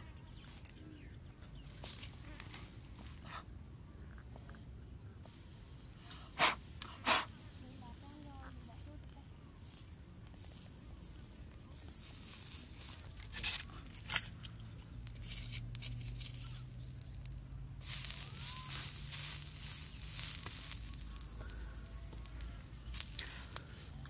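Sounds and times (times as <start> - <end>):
sizzling crackles on hot stone: 0.3 - 24.0.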